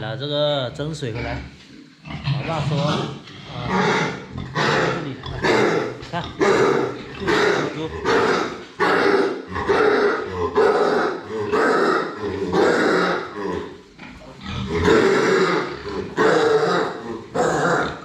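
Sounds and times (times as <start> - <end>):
pig coughing harshly: 2.3 - 13.6, 14.4 - 18.0.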